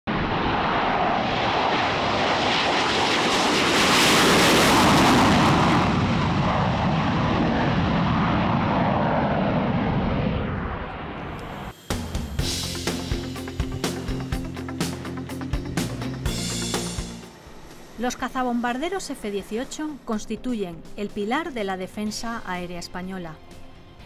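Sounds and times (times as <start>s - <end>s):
jet roar on takeoff: 0.1s - 20.1s.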